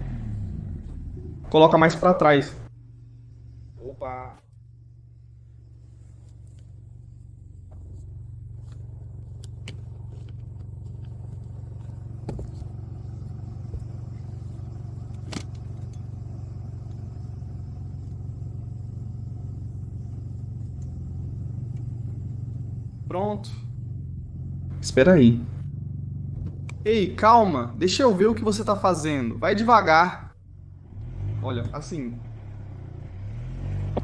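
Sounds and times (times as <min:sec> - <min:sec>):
car engine running at low revs: 0:00.0 - 0:34.0.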